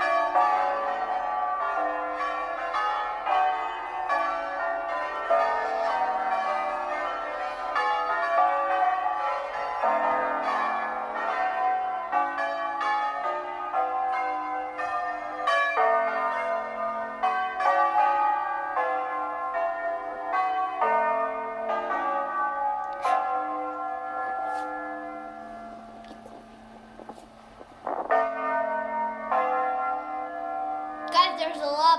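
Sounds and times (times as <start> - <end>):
tower bells playing a tune: 0.0 - 31.9.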